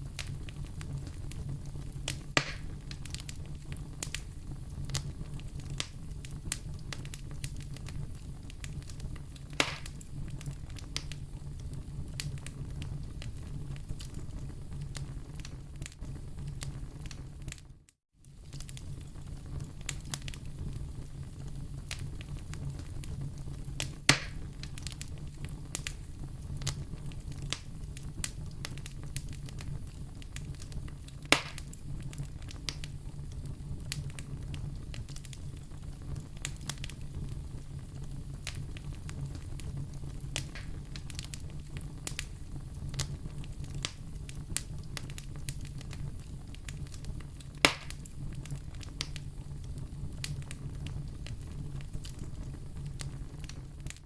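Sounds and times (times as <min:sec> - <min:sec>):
sharp pops of fire: 0:00.0 - 0:17.7, 0:18.3 - 0:54.0
wood fire crackling: 0:00.0 - 0:54.0.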